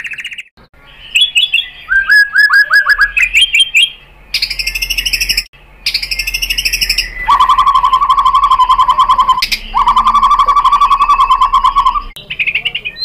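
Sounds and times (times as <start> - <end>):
bird singing rattling trills: 0.0 - 13.0.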